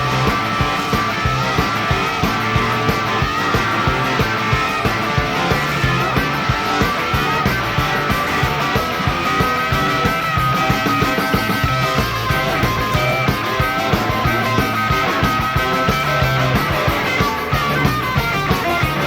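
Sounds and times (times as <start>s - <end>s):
bass guitar: 0.0s - 19.0s
drums: 0.0s - 19.0s
electric guitars: 0.0s - 19.0s.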